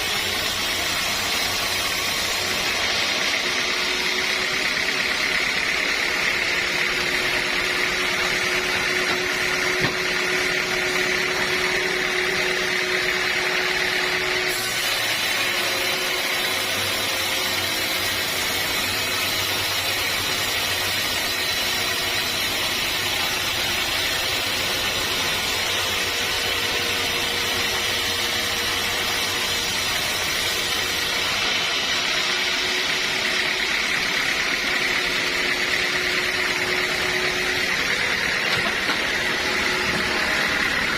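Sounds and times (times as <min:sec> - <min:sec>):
sawmill saw and machinery running: 0:00.0 - 0:40.9.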